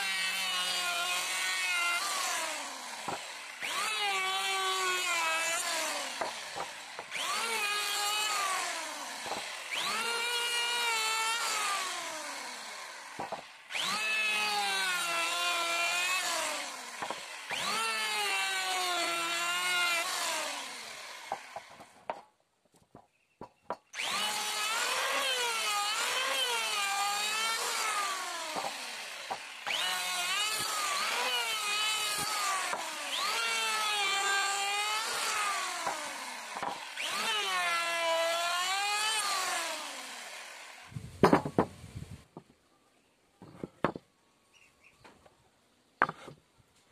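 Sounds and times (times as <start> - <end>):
electric planer shaving wood: 0.0 - 21.9, 24.0 - 41.0.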